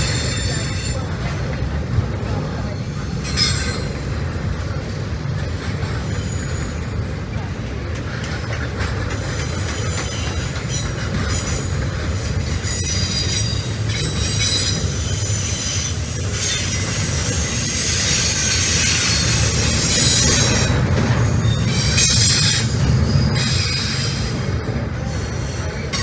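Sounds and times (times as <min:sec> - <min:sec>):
steel wheels squealing: 0:00.0 - 0:01.2, 0:02.6 - 0:04.3, 0:05.4 - 0:07.2, 0:08.7 - 0:26.0
train wheels rumbling: 0:00.0 - 0:26.0.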